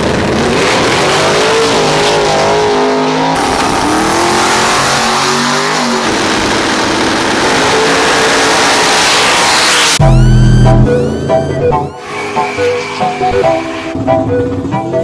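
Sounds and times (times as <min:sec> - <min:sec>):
race car engines revving: 0:00.0 - 0:10.0, 0:12.0 - 0:15.0.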